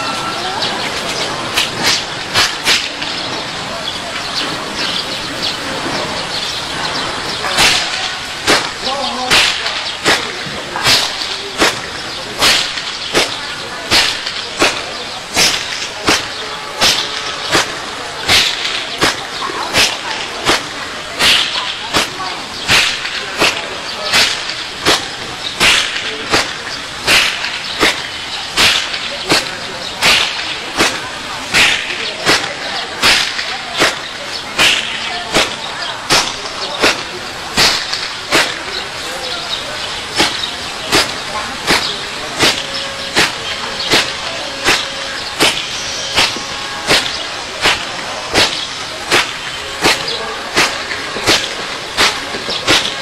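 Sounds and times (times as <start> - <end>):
outdoor background noise: 0.0 - 53.0
palms slapping stones: 1.0 - 3.4, 6.9 - 53.0.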